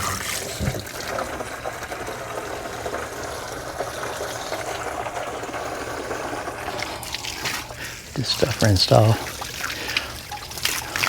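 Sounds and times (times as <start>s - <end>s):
water from hose into plastic jug: 0.0s - 11.0s.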